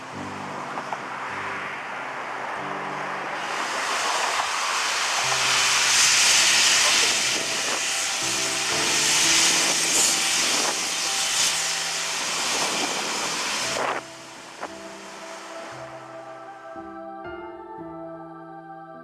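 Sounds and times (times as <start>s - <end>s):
steam locomotive hissing: 0.0s - 16.7s.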